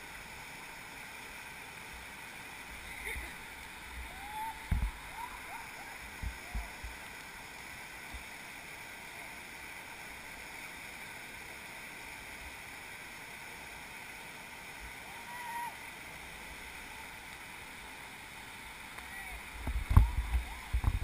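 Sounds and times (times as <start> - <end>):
river rapids rushing over boulders: 0.0 - 21.0.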